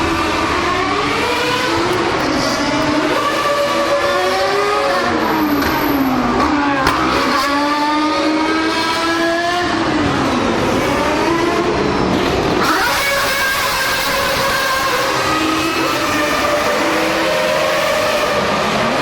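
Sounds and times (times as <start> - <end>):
racing car engines at high revs: 0.0 - 19.0.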